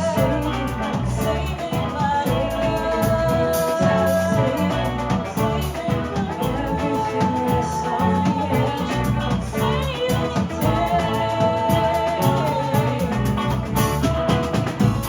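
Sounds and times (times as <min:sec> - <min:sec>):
bass line: 0:00.0 - 0:15.0
drum kit: 0:00.0 - 0:15.0
live band playing: 0:00.0 - 0:15.0.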